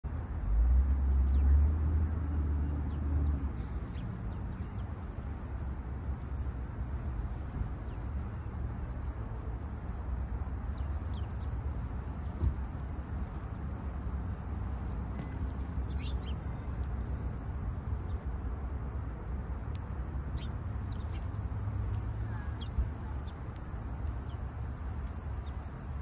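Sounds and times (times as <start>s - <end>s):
high-pitched insect chorus: 0.1s - 26.0s
small birds chirping: 1.1s - 1.7s, 2.6s - 26.0s.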